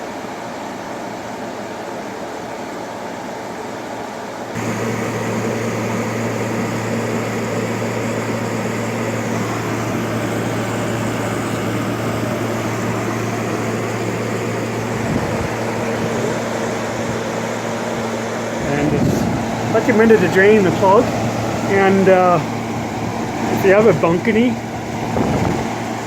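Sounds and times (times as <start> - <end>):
air conditioner running: 0.0 - 26.0.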